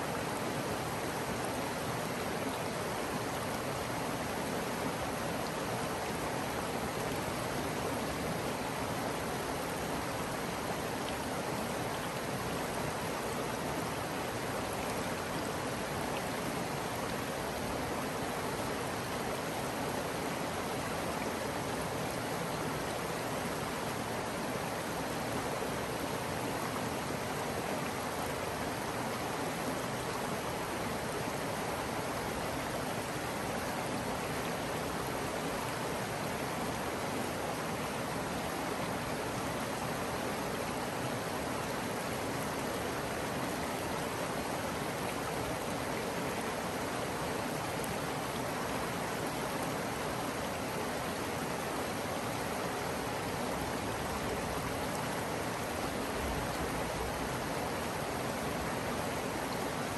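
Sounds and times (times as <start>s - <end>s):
shallow creek water flowing: 0.0s - 59.9s.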